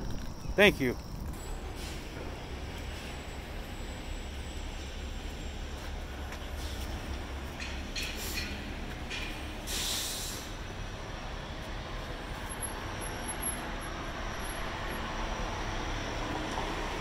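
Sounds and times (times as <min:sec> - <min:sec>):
city traffic rumble and hiss: 0:00.0 - 0:17.0.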